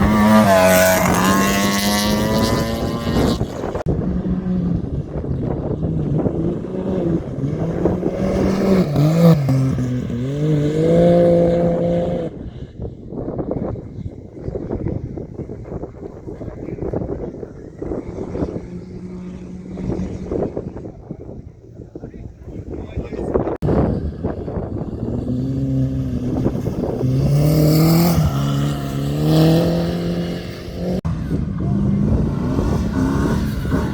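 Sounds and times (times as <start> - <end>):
motorcycle engine revving: 0.0 - 13.7, 14.4 - 22.0, 23.6 - 33.9.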